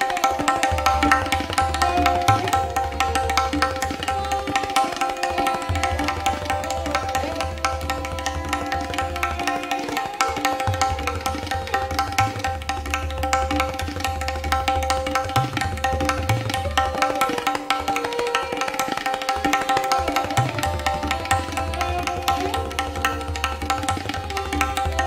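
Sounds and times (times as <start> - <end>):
fast tabla strokes: 0.0 - 25.0
sarangi bowing a melody: 0.0 - 25.0.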